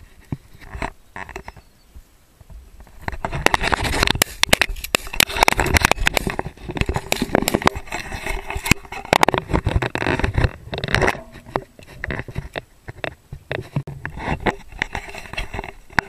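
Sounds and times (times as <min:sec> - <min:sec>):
wind noise rumble: 0:02.4 - 0:16.0.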